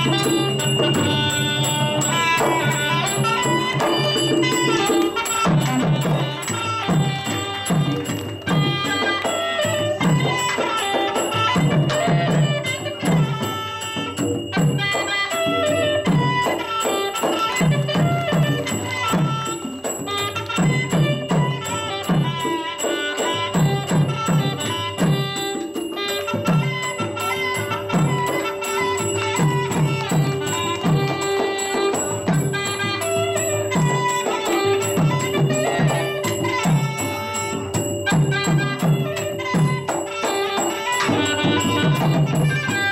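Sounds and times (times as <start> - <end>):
reed pipe melody: 0.0 - 42.9.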